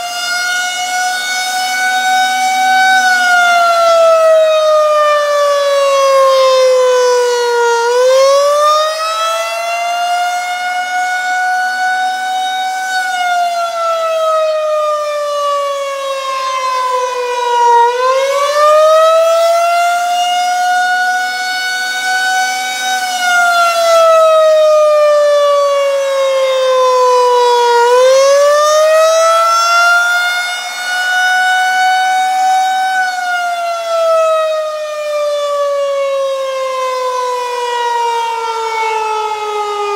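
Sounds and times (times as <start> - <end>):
warning siren rising and falling: 0.0 - 39.9.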